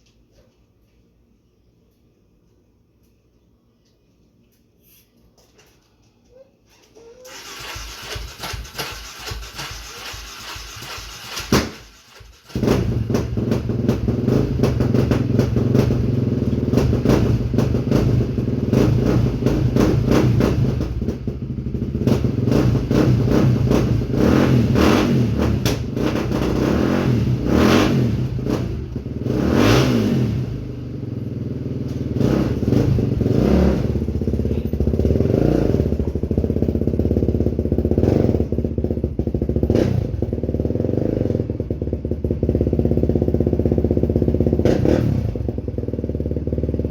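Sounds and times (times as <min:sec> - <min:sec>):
clatter: 0:05.4 - 0:29.4, 0:31.6 - 0:46.9
quad engine revving: 0:07.2 - 0:46.9.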